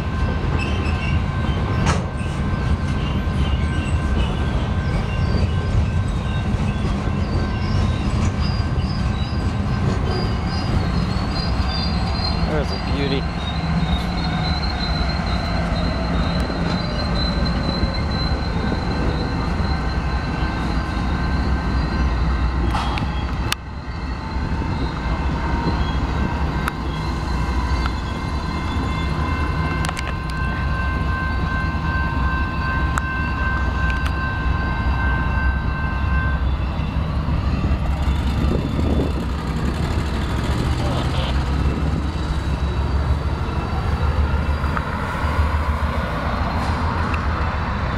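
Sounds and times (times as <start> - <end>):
freight train rumbling past: 0.0 - 47.9
train wheels squealing: 0.0 - 47.9.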